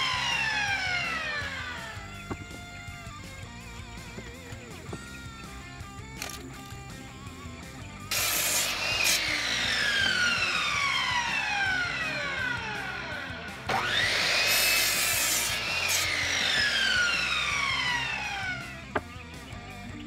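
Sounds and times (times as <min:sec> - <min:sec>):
saw blade winding down: 0:00.0 - 0:05.6, 0:08.0 - 0:19.0
saw motor starting whine: 0:00.0 - 0:05.6, 0:07.0 - 0:19.8
miter saw cutting wood: 0:00.0 - 0:06.4, 0:08.0 - 0:19.5.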